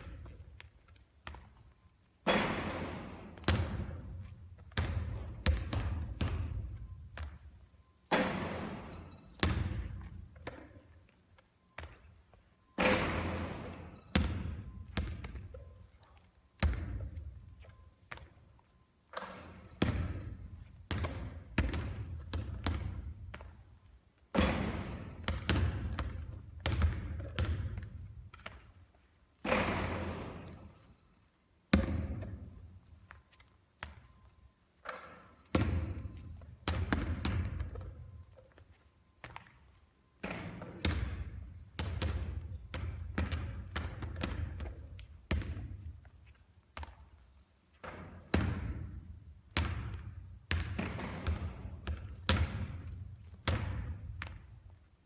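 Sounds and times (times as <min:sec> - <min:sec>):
basketball bouncing on a court: 0:00.0 - 0:30.9, 0:31.7 - 0:39.6, 0:40.2 - 0:54.8.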